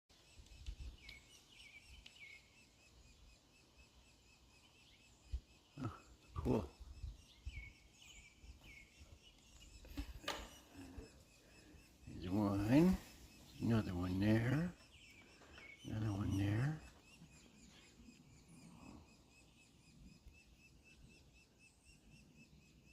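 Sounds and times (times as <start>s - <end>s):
small birds chirping: 0.1s - 22.9s.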